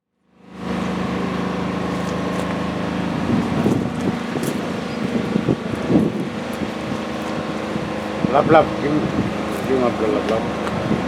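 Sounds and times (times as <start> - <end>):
diesel truck engine humming: 0.3 - 11.0.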